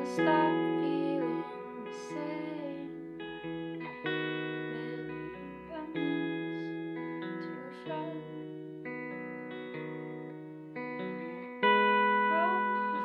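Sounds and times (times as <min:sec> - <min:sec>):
electric guitar strummed chords: 0:00.0 - 0:13.0.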